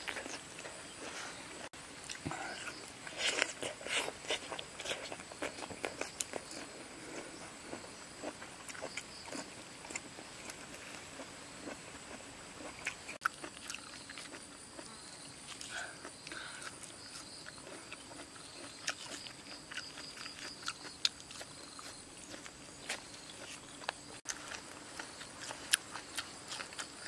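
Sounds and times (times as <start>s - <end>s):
wet chewing and lip-smacking: 2.0s - 11.0s, 12.1s - 14.9s, 15.5s - 27.0s.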